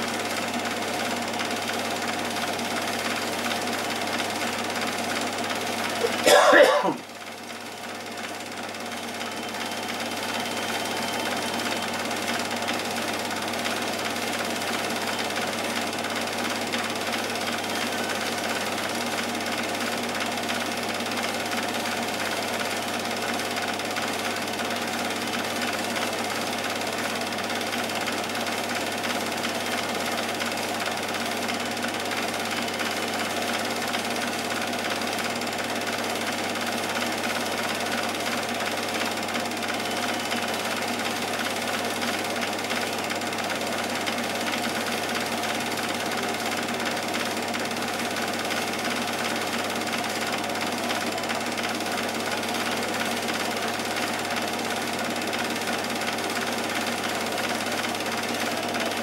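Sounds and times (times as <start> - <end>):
film projector whirring: 0.0 - 59.0.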